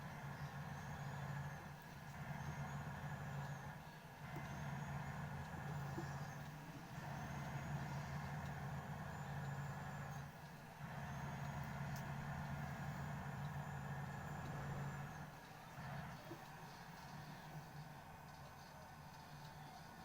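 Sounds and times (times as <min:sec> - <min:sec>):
car engine hum: 0:00.0 - 0:20.0.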